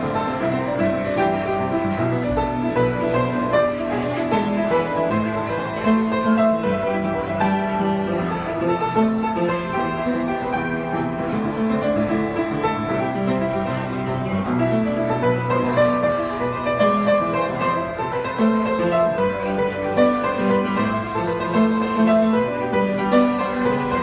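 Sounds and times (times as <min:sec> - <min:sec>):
solo piano playing: 0:00.0 - 0:24.0.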